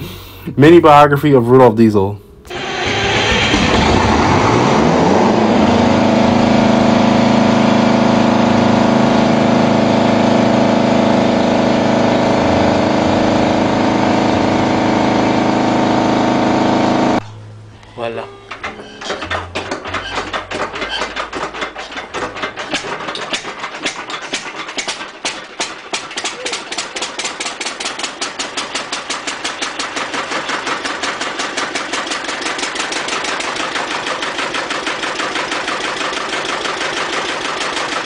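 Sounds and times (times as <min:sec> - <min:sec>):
diesel engine starting and running: 0:02.5 - 0:38.0.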